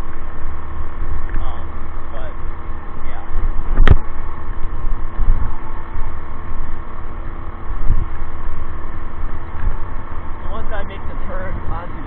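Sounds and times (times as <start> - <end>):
electric bike motor hum: 0.0 - 12.0
wind buffeting microphone: 0.0 - 12.0.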